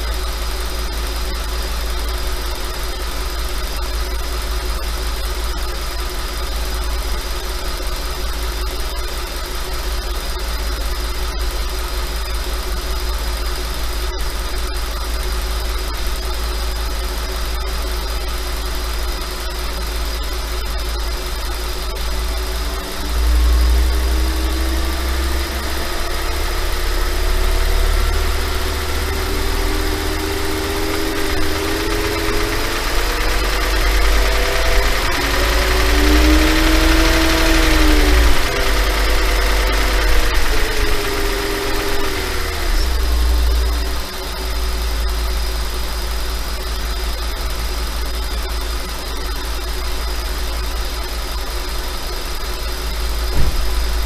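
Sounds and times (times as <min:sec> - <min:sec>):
car engine idling and revving: 0:00.0 - 0:54.0
engine rattling: 0:00.0 - 0:54.0.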